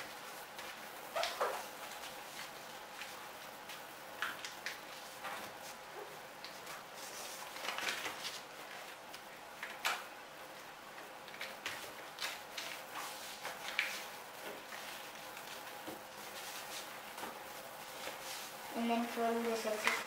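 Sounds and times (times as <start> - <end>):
paper rustling and crackling: 0.0 - 20.0.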